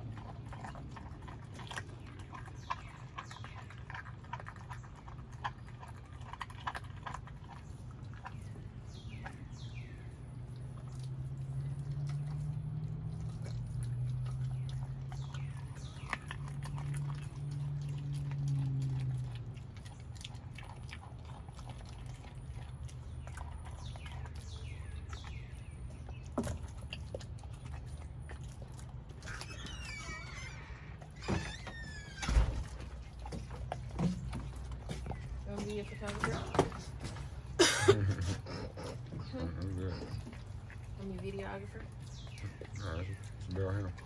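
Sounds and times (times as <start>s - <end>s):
dog chewing raw chicken: 0.0s - 44.0s.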